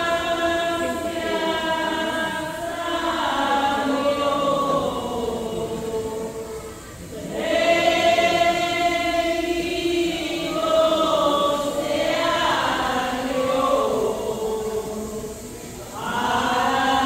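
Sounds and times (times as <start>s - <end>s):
group singing a hymn: 0.0s - 17.0s.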